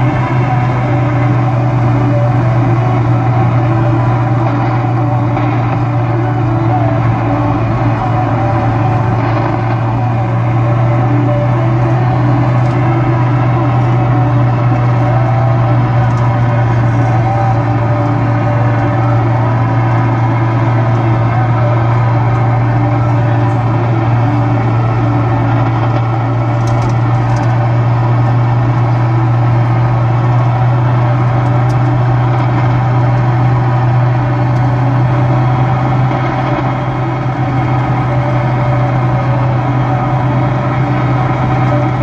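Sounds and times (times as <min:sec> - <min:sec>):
low hum: 0:00.0 - 0:42.0.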